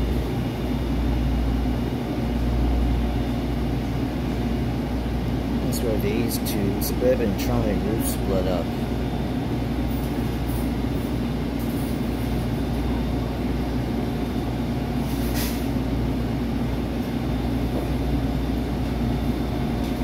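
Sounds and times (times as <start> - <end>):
trolley equipment humming: 0.0 - 20.0.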